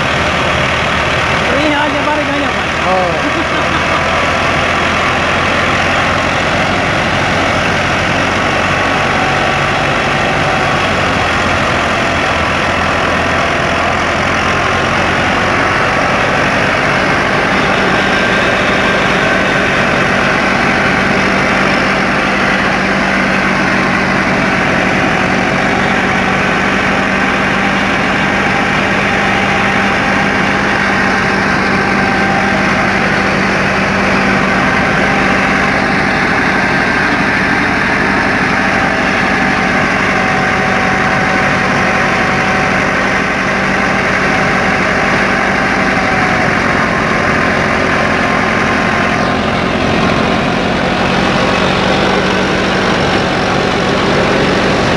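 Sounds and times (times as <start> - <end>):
threshing machine running: 0.0 - 54.9
tractor diesel engine under load: 0.0 - 54.9.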